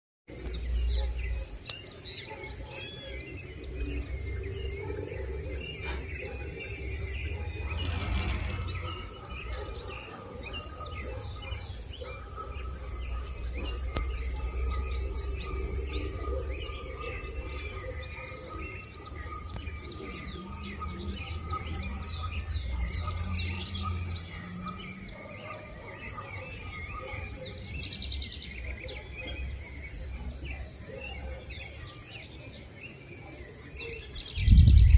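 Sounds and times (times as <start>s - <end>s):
chorus of small birds chirping: 0.3s - 34.9s.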